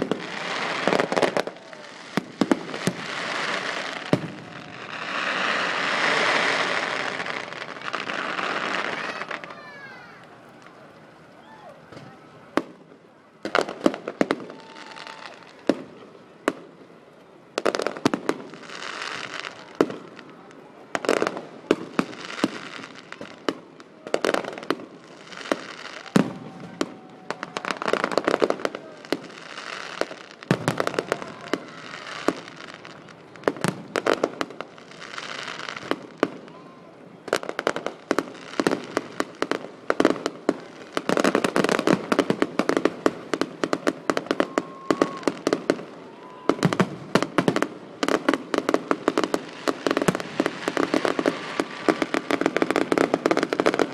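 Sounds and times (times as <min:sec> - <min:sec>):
fireworks bangs: 0:00.0 - 0:53.9
fireworks crackling fizz: 0:00.0 - 0:53.9.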